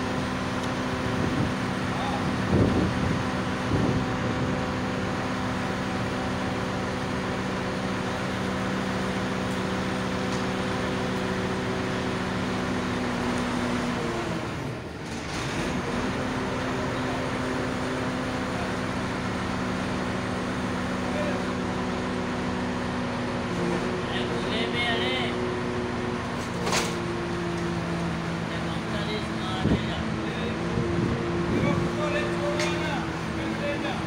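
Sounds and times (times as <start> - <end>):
heavy engine idling: 0.0 - 34.0.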